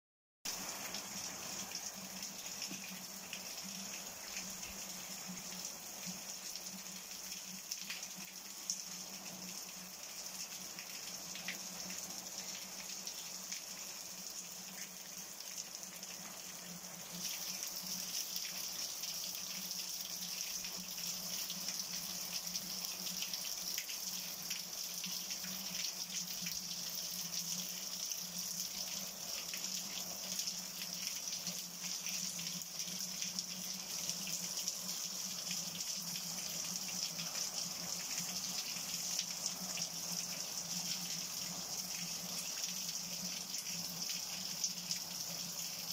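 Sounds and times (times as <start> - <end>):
rain on tile roof: 0.5 - 45.9.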